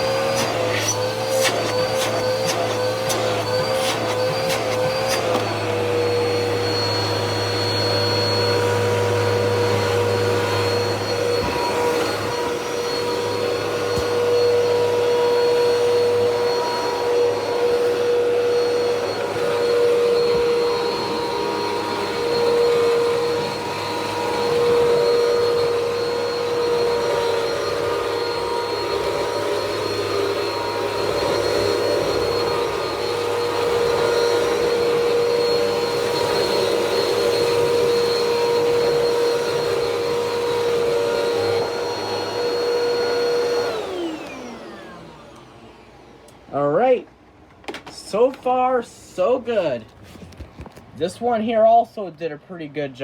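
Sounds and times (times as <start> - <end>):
vacuum cleaner motor whine: 0.0 - 48.6.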